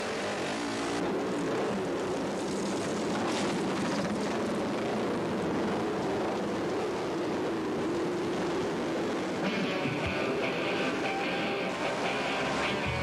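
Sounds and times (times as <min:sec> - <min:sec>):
racing motorcycle engines: 0:00.0 - 0:13.0.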